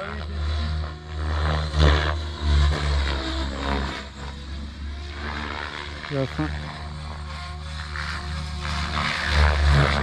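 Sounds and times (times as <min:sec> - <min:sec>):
model helicopter rotor and motor: 0:00.0 - 0:10.0.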